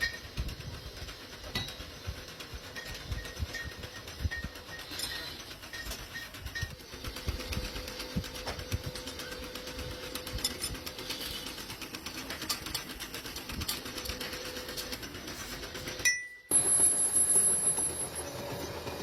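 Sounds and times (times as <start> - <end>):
factory machinery humming: 0.0 - 19.0
machinery clicks and clatter: 0.0 - 19.0.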